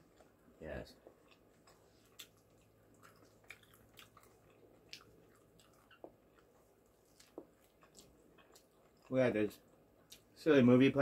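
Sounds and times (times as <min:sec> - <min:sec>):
person chewing: 0:00.0 - 0:10.4
low room hum: 0:00.0 - 0:11.0.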